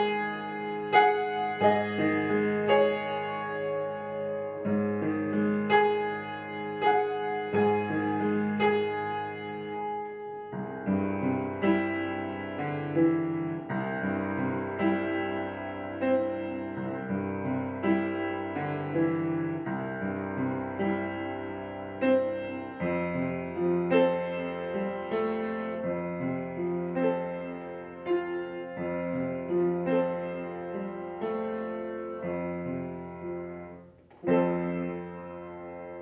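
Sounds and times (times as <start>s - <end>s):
upright piano playing: 0.0s - 36.0s.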